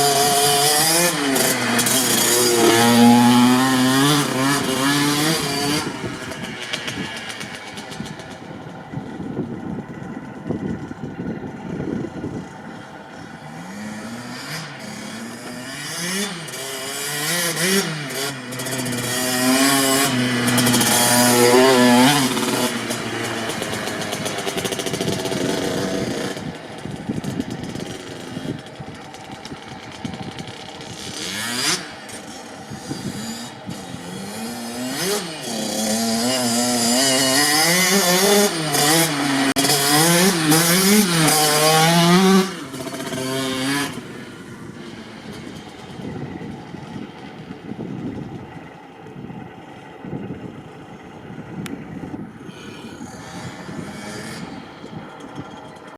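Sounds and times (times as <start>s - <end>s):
dirt bike engine revving: 0.0s - 48.2s, 51.9s - 55.9s.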